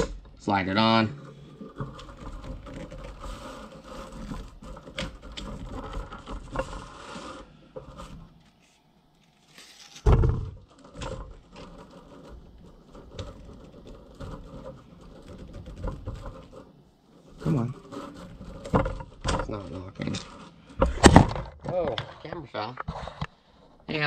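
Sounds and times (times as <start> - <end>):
plastic adapter handling and scraping: 0.0 - 23.4.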